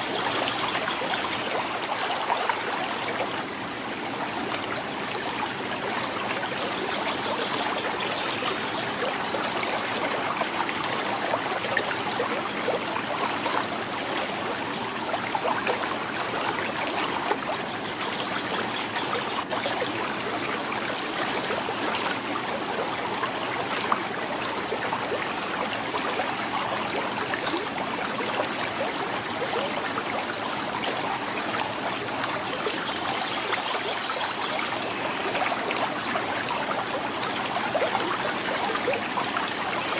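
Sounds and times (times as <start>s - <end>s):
river water gurgling over stones: 0.0s - 39.9s.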